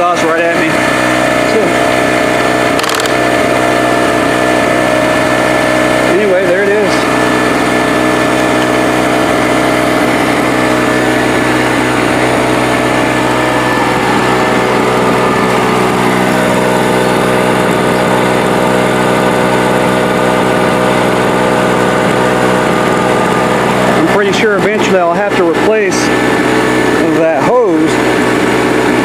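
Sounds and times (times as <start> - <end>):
gasoline generator engine drone: 0.0 - 29.0.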